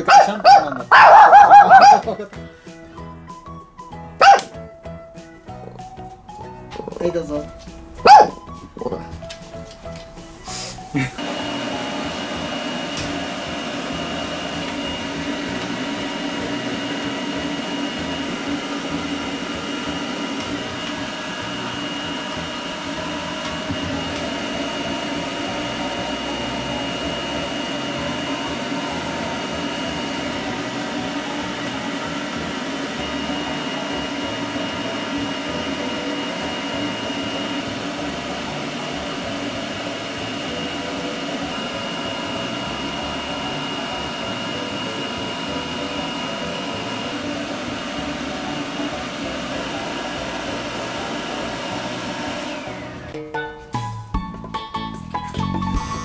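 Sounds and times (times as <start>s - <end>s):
blow dryer rushing air: 0.0s - 53.2s.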